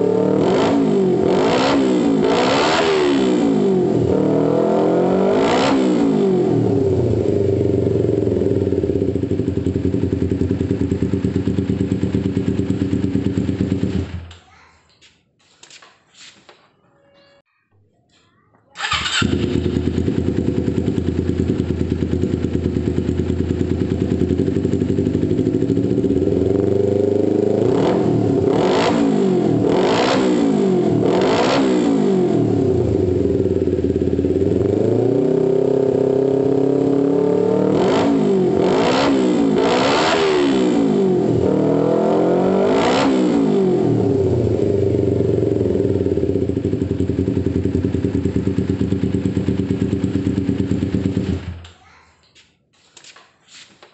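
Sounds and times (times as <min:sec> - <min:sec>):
motorcycle engine idling and revving: 0:00.0 - 0:14.4, 0:18.8 - 0:51.8.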